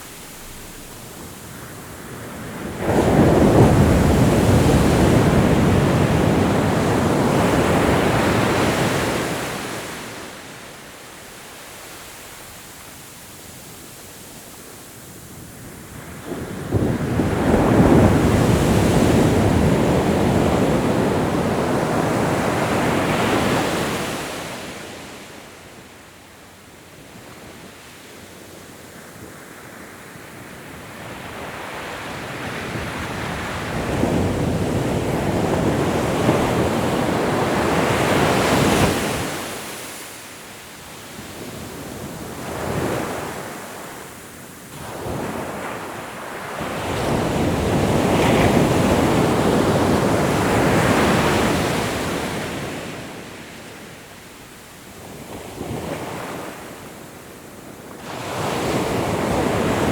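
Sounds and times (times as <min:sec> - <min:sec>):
ocean waves breaking on shore: 0:00.0 - 0:25.5, 0:30.7 - 0:59.9.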